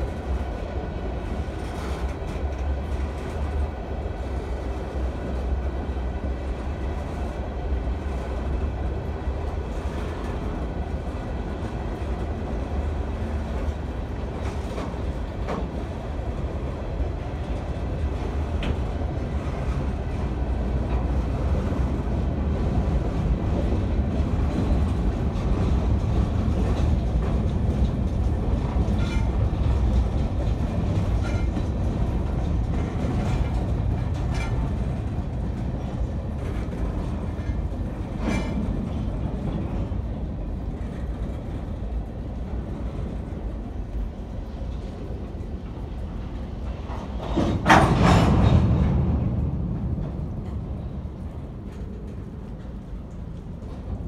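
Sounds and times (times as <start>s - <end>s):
freight train rolling past: 0.0s - 54.0s
clacks over rail joints: 1.2s - 54.0s.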